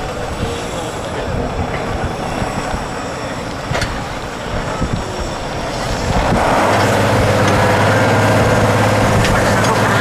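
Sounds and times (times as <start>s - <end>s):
truck diesel engine: 0.0s - 10.0s.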